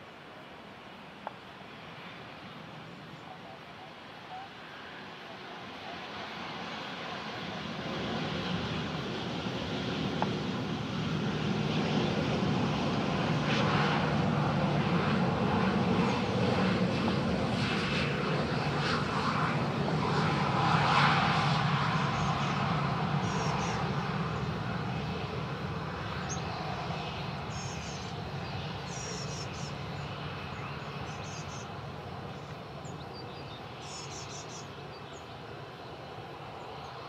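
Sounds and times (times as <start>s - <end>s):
jet engine roar: 0.9s - 37.0s.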